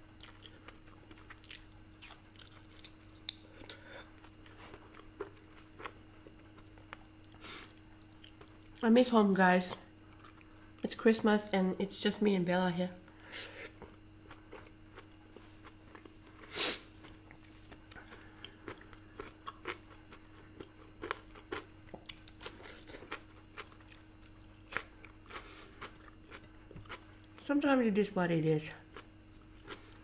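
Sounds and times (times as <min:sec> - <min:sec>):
chewing food with crunches: 0:00.0 - 0:09.0, 0:09.7 - 0:10.8, 0:13.0 - 0:27.4, 0:28.8 - 0:30.0
faint steady hum: 0:00.0 - 0:30.0.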